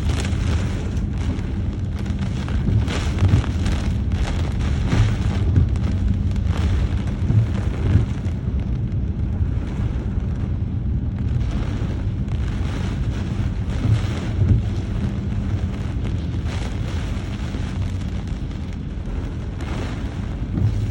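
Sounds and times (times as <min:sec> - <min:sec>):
heavy low thunder rumble: 0:00.0 - 0:20.9
wind buffeting microphone: 0:00.0 - 0:20.9.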